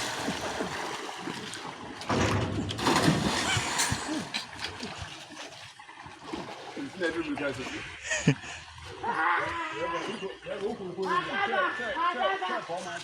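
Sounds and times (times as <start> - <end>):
river water splashing: 0.0 - 11.4.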